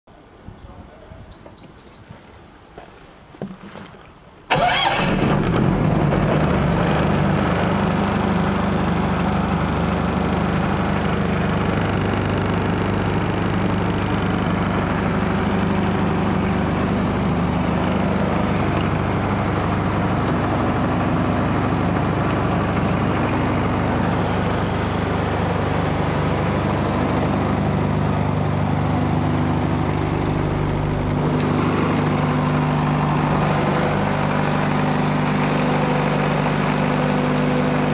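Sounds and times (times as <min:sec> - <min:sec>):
diesel generator running: 0:04.5 - 0:37.9.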